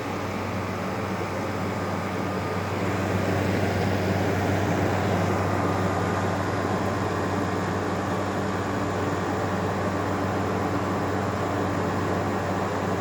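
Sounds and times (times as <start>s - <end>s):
air conditioner compressor hum: 0.0s - 13.0s
fan blowing air: 0.0s - 13.0s.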